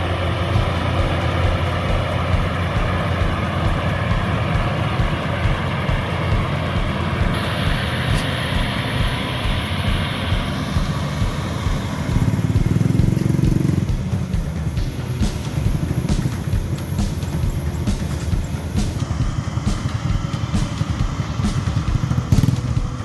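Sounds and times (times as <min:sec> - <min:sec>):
combine harvester engine throb: 0:00.0 - 0:23.0.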